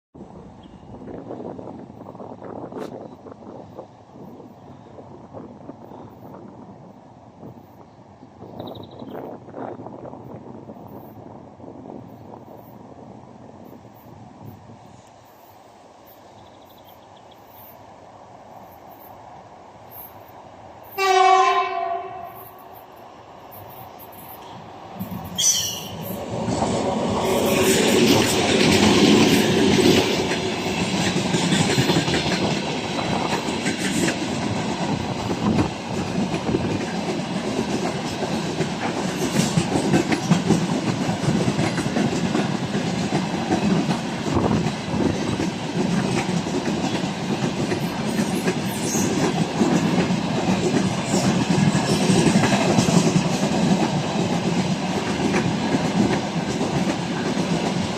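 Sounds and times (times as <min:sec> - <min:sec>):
diesel locomotive passing: 0:00.2 - 0:57.9.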